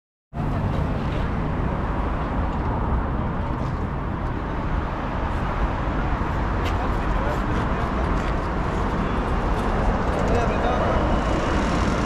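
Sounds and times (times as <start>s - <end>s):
road traffic rumble: 0.3s - 12.0s.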